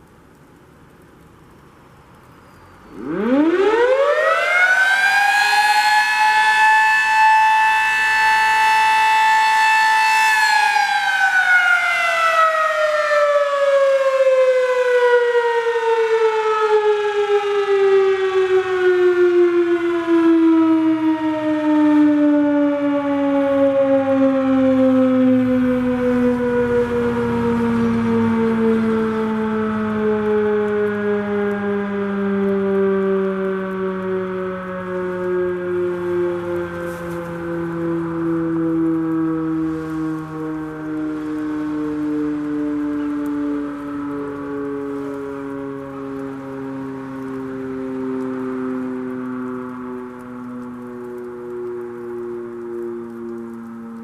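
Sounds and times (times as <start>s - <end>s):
fire siren wailing: 0.0s - 54.0s.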